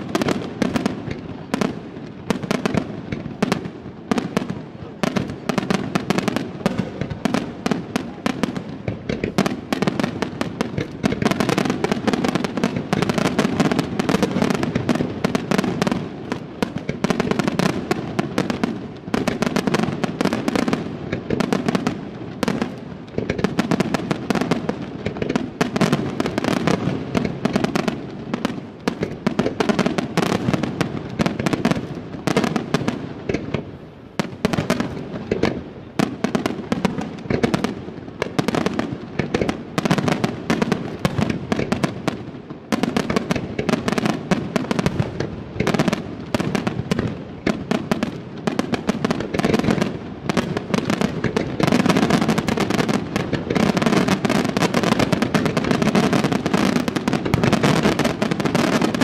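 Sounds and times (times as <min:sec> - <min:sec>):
fireworks bursting and crackling: 0:00.0 - 0:59.0.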